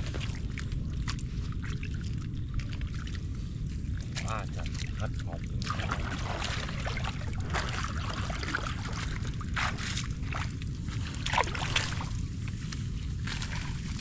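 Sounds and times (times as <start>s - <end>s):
steady low rumble: 0.0s - 14.0s
water sloshing from wading: 0.0s - 14.0s.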